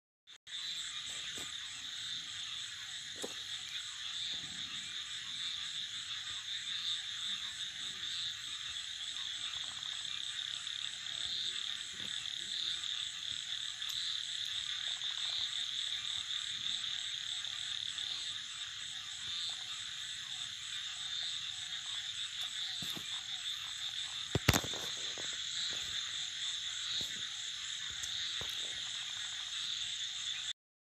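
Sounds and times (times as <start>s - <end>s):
frogs calling: 0.4s - 30.6s.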